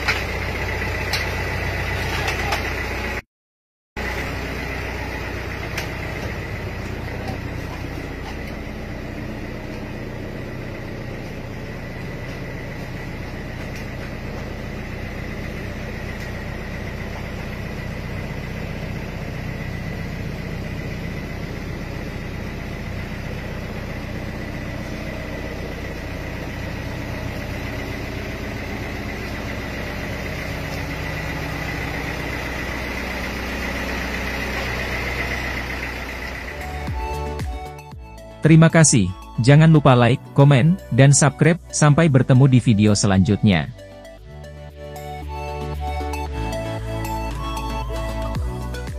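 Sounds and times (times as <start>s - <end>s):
engine idling: 0.0s - 3.2s, 4.0s - 48.9s.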